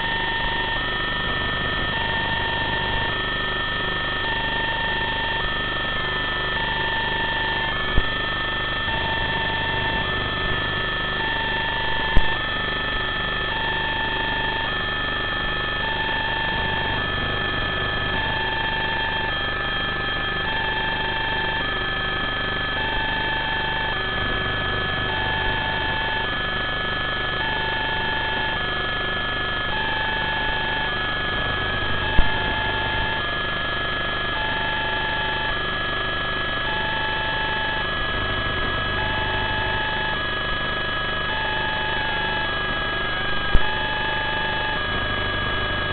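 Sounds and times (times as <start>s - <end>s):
two-tone alarm beeping: 0.0s - 35.6s, 36.4s - 45.9s
high-pitched electronic whine: 0.0s - 45.9s.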